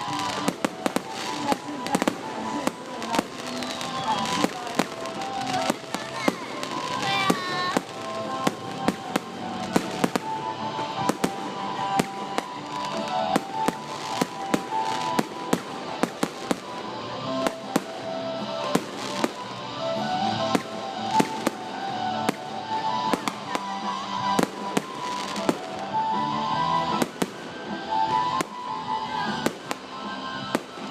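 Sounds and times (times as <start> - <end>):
fireworks bangs: 0.0 - 30.9
fireworks crackling: 0.0 - 30.9.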